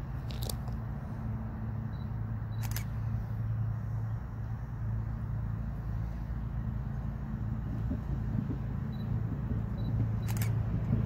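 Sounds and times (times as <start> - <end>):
diesel locomotive idling: 0.0 - 11.0.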